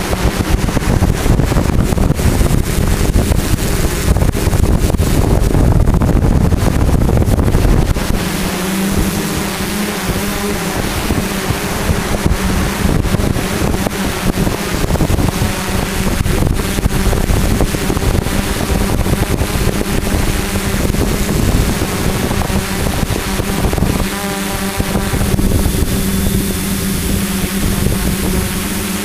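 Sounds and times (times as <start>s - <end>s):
drone propellers humming: 0.0s - 29.0s
wind buffeting microphone: 0.0s - 29.0s.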